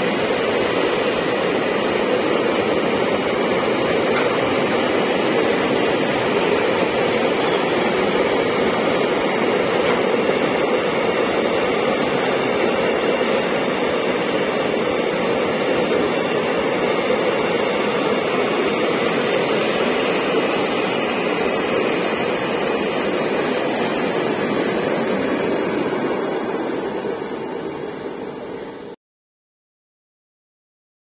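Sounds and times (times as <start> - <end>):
train wheels on rail: 0.0 - 28.9.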